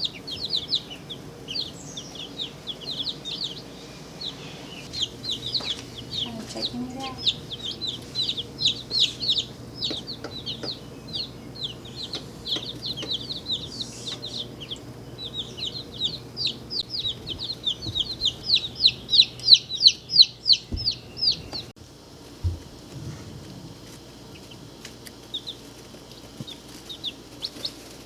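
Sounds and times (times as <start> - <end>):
chicks peeping: 0.0 - 28.0.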